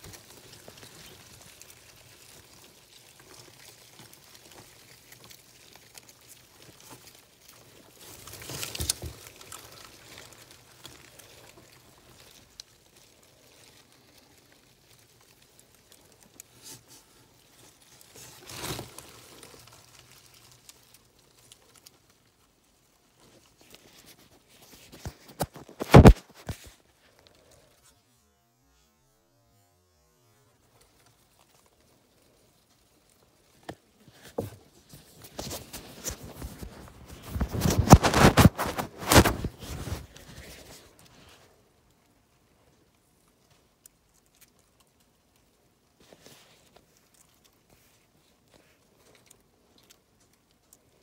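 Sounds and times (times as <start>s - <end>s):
faint rustling and scraping: 0.0s - 51.0s.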